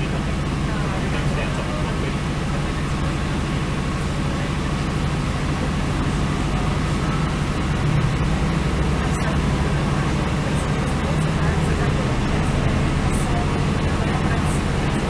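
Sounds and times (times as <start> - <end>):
diesel train rumble inside carriage: 0.0 - 15.0.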